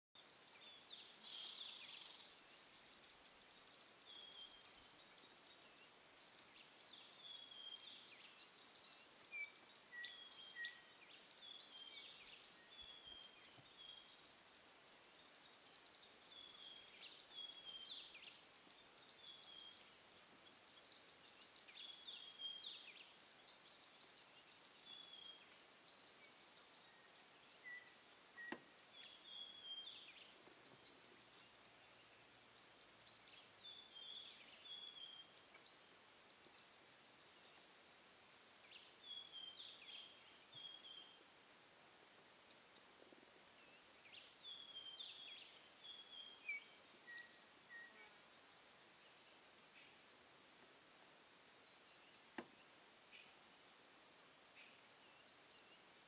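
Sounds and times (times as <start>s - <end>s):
birds chirping and trilling: 0.2s - 41.4s, 42.4s - 50.6s, 51.5s - 56.0s
soft background hiss: 0.2s - 56.0s.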